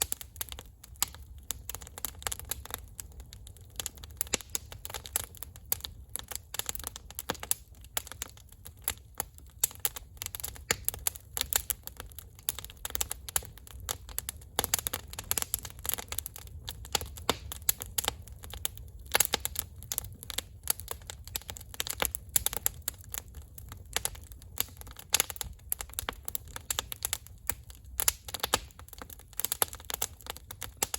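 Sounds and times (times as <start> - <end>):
campfire crackling: 0.0 - 30.9.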